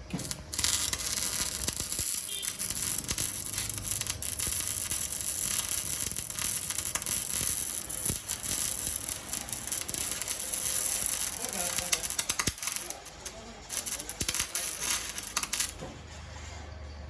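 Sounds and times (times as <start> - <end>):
welding arc crackling and sizzling: 0.0 - 15.8.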